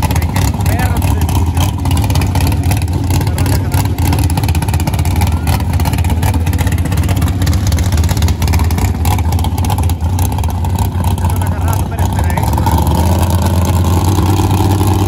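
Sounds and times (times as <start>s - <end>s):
dragster engine idling: 0.0s - 15.0s.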